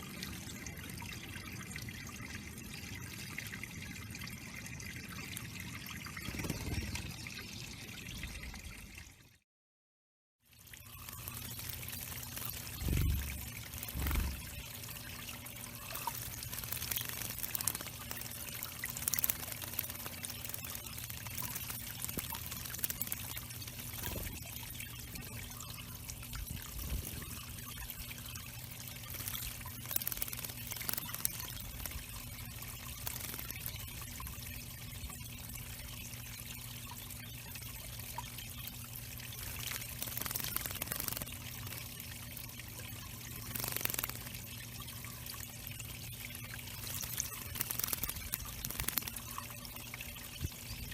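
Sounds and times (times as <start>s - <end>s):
water trickling into pond: 0.0s - 9.4s, 10.4s - 50.9s.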